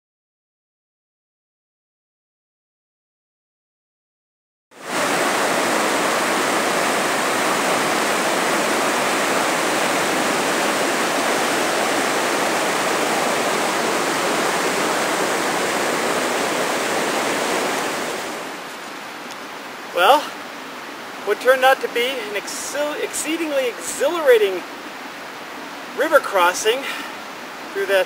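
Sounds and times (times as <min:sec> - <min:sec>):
river rushing over rapids: 0:04.8 - 0:28.0.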